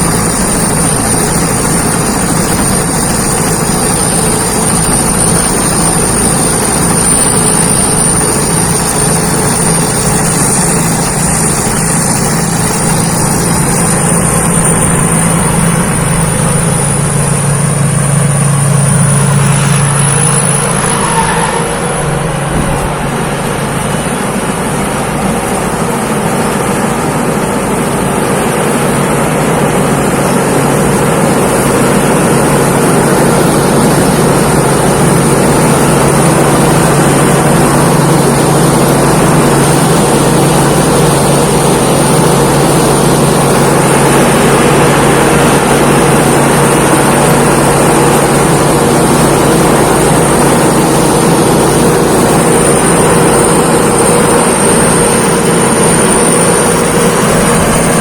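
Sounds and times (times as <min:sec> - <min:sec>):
harvester engine droning: 0:00.0 - 0:58.0
high whine: 0:00.0 - 0:58.0.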